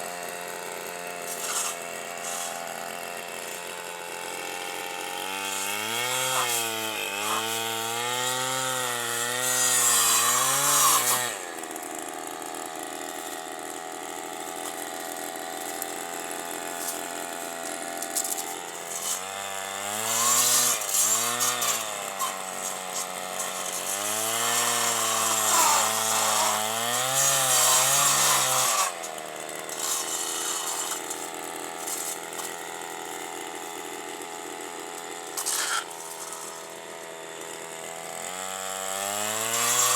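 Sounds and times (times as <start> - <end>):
brushcutter revving: 0.0 - 39.9
blade cutting thorny branches: 1.1 - 39.9.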